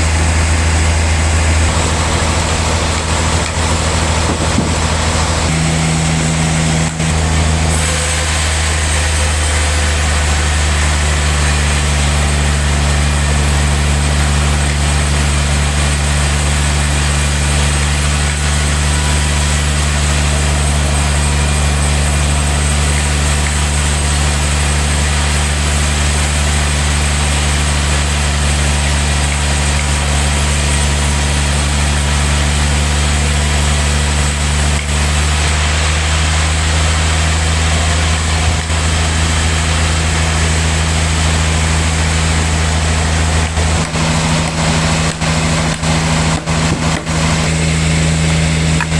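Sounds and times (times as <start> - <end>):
low machine drone: 0.0 - 48.9
saw cutting through wood: 0.0 - 48.9.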